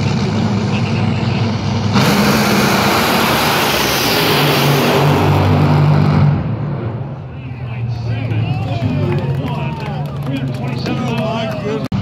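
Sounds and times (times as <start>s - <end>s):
dragster engines roaring: 0.0s - 12.0s.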